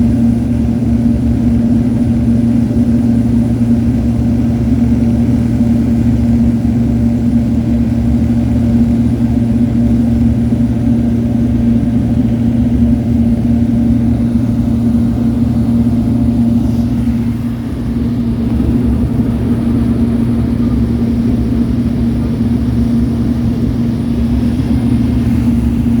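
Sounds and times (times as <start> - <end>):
propeller plane cabin drone: 0.0 - 26.0.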